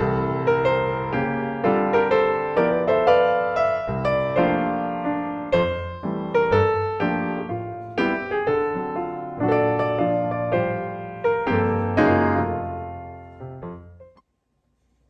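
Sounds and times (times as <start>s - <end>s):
solo piano piece: 0.0s - 14.2s.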